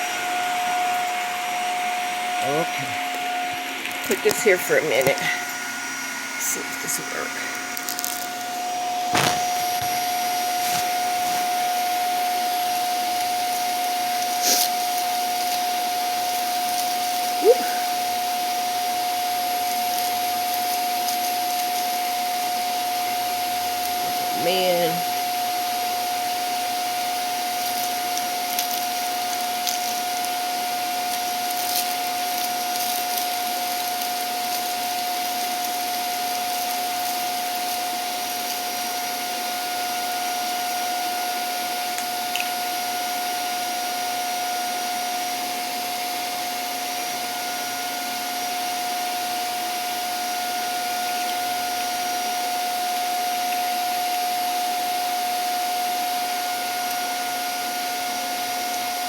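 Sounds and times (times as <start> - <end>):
vacuum cleaner whining: 0.0 - 59.0.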